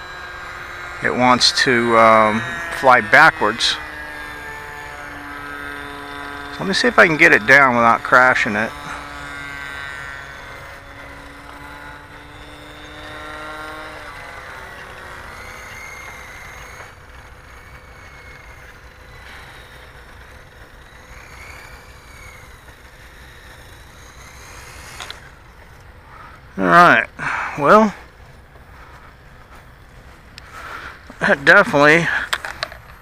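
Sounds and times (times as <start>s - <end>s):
rc helicopter whining: 0.0s - 33.0s.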